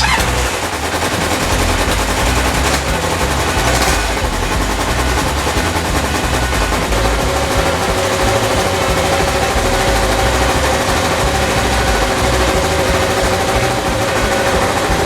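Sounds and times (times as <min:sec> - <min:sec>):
motorcycle engine running loudly: 0:00.0 - 0:15.0.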